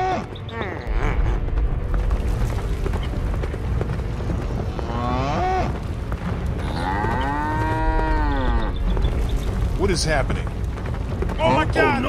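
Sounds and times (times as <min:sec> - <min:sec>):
herd rumbling: 0:00.0 - 0:12.0.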